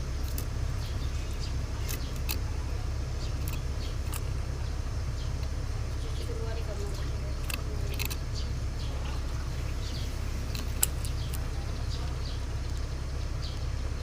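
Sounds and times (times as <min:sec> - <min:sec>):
bird chirping: 0:00.0 - 0:14.0
low hum: 0:00.0 - 0:14.0.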